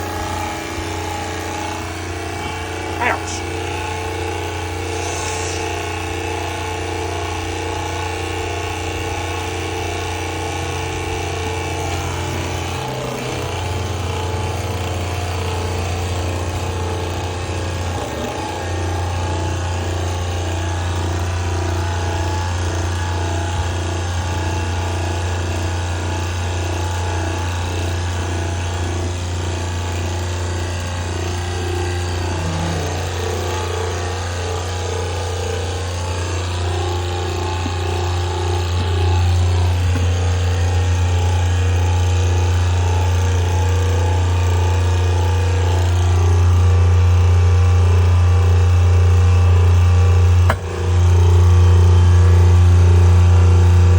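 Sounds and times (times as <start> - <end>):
hydraulic power unit humming: 0.0 - 53.9.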